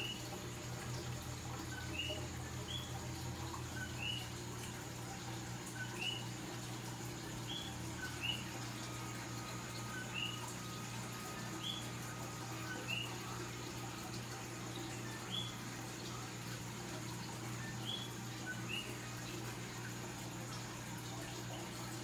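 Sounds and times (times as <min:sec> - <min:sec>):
frogs calling: 0:00.0 - 0:22.0.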